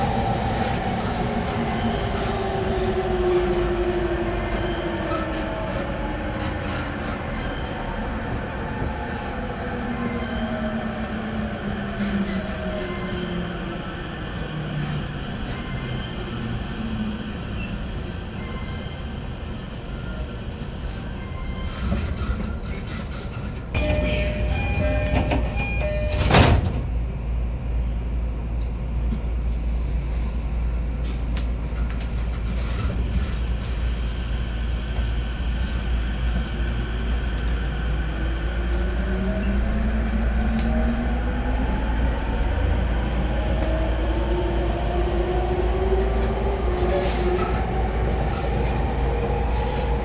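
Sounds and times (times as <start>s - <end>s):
train rumbling on rails: 0.0s - 50.0s.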